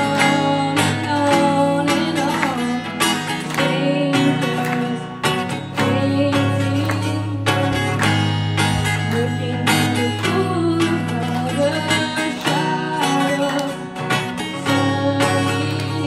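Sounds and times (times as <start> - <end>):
woman singing: 0.0 - 8.1, 8.8 - 16.0
acoustic guitar strumming: 0.0 - 16.0.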